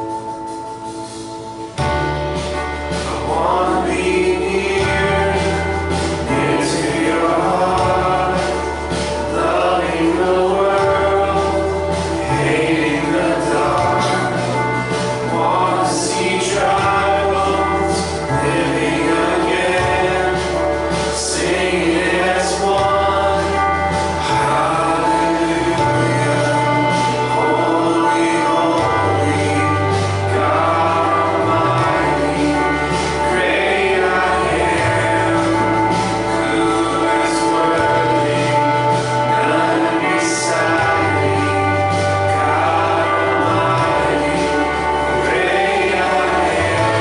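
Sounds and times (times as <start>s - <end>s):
instrumental backing: 0.0s - 47.0s
long held bass notes: 0.0s - 47.0s
group singing worship song: 0.9s - 47.0s.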